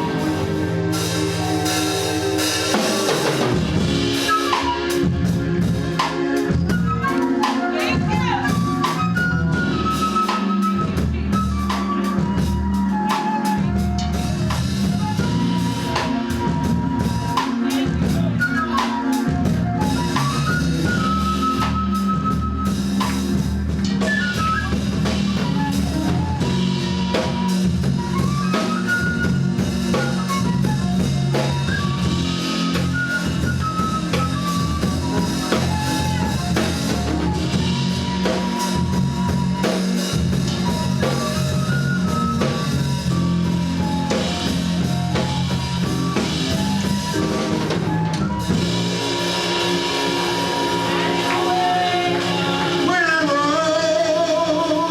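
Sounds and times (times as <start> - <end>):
bass line: 0.0 - 54.9
drum kit steady beat: 0.0 - 54.9
gospel band playing: 0.0 - 54.9
sliding lead melody: 0.0 - 54.9.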